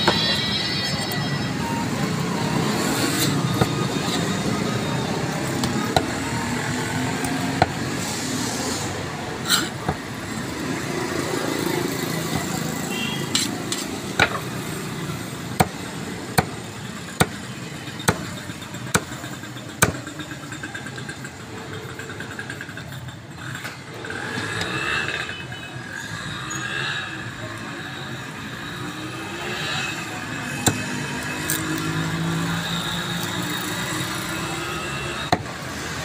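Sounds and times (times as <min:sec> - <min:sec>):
steady background noise: 0:00.0 - 0:36.0.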